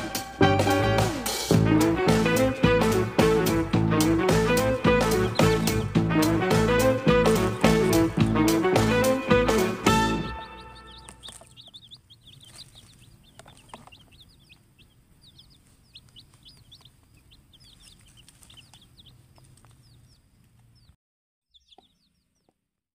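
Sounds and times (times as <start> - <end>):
baby chicks peeping: 0.0 - 22.8.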